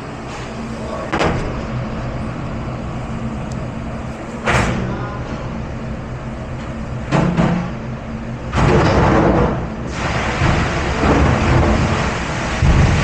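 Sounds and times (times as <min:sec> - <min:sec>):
dish-room machinery hum: 0:00.0 - 0:13.0.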